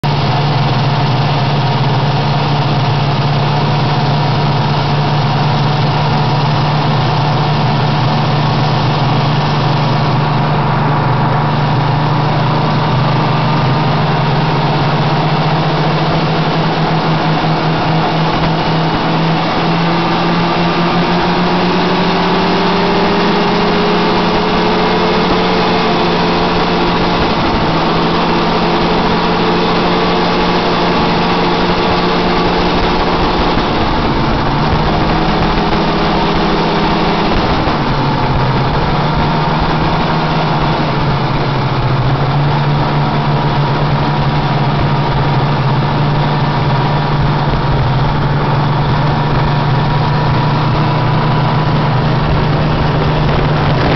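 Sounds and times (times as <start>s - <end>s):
snowmobile engine running: 0.0s - 53.9s.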